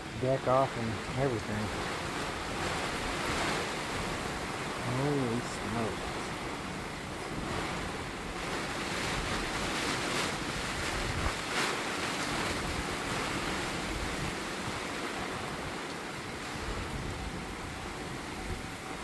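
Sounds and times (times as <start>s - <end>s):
strong wind over rough water: 0.0s - 19.0s.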